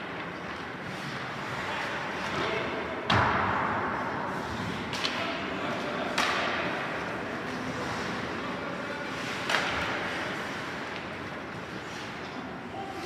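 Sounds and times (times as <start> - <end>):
steady rink noise: 0.0 - 13.0.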